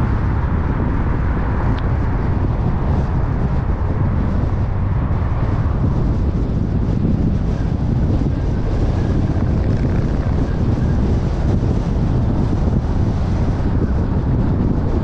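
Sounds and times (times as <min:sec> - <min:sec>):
tyre and wind noise: 0:00.0 - 0:15.0.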